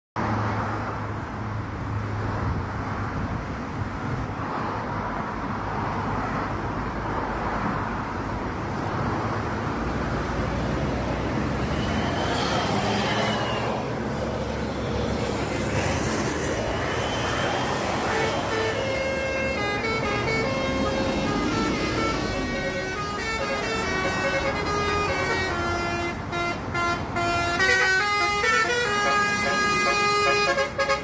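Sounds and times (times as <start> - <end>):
passing vehicles: 0.2 - 31.0.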